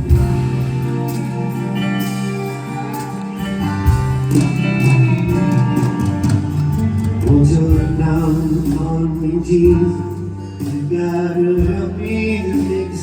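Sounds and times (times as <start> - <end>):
guitar over held chords: 0.0 - 13.0
live band playing: 0.0 - 13.0.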